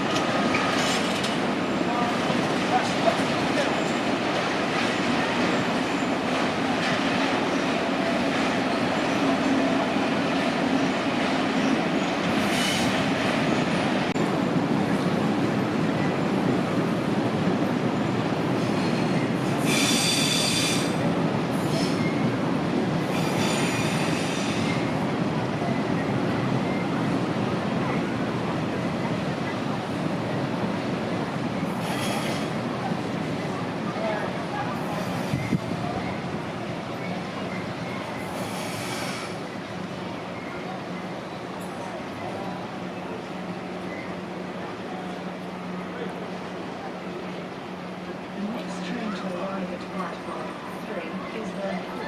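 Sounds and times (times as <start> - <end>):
faint clicks of train: 0.0 - 16.8, 18.5 - 22.4, 23.0 - 50.6
train wheels rumbling on rail: 0.0 - 52.0.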